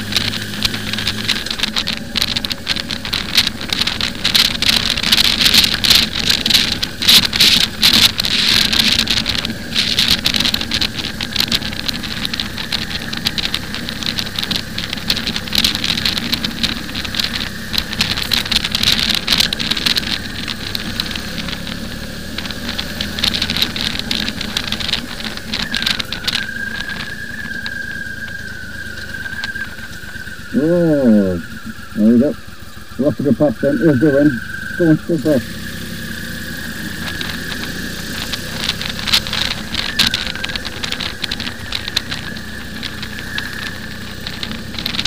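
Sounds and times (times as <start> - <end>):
microphone crackles: 0.0 - 45.0
motorcycle engine drone: 0.0 - 45.0
wind buffeting microphone: 0.0 - 45.0.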